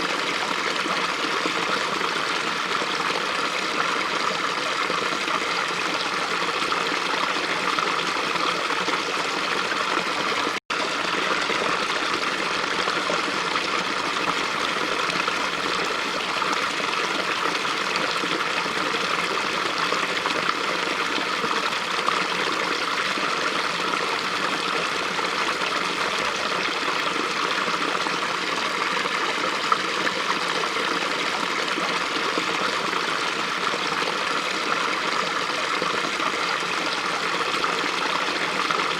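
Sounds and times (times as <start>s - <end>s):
brook flowing: 0.0s - 38.9s.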